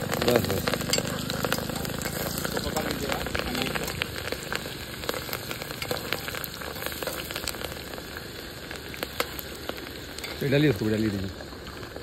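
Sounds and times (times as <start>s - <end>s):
garlic and onion frying in oil: 0.0s - 12.0s
small pops and crackles: 0.0s - 12.0s.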